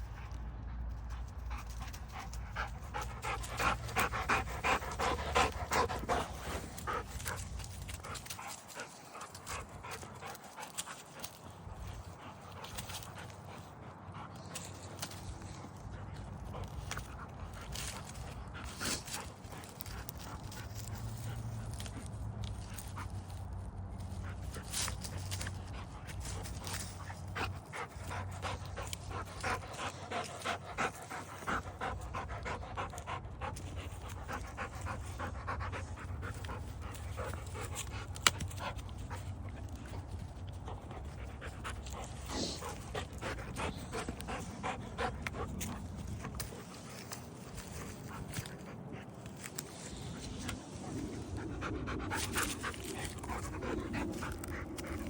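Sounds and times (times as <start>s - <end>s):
dog panting: 0.0s - 55.0s.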